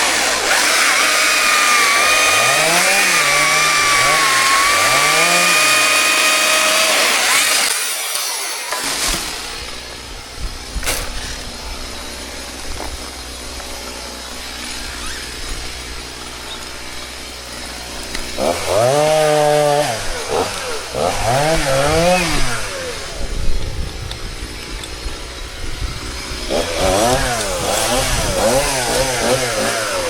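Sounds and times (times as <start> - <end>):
chainsaw idling and revving: 0.0 - 30.0.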